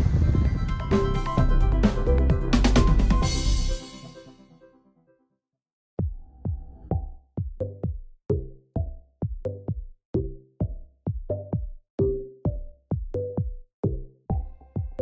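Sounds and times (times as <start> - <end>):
electronic music with drum-machine beat: 0.0 - 4.5, 6.0 - 15.0.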